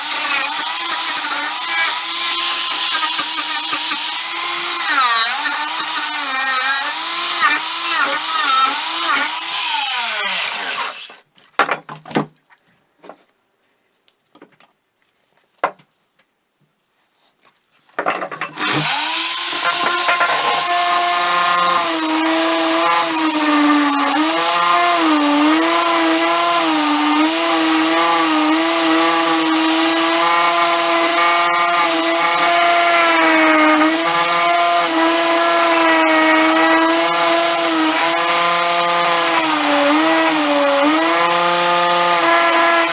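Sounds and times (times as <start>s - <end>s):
power tool motor whining: 0.0s - 11.2s, 18.6s - 42.9s.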